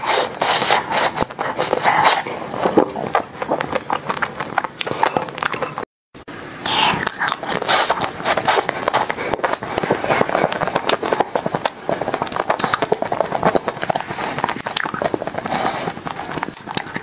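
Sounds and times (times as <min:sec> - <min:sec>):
biting and chewing ice cream bar: 0:00.0 - 0:05.9, 0:06.7 - 0:17.0.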